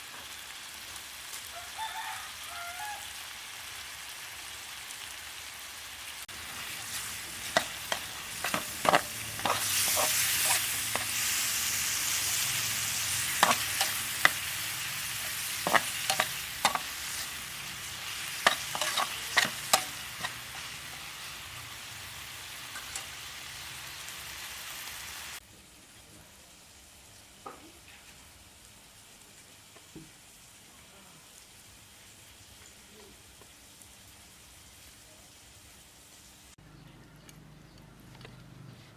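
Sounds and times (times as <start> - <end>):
squid sizzling in a pan: 0.0 - 36.6.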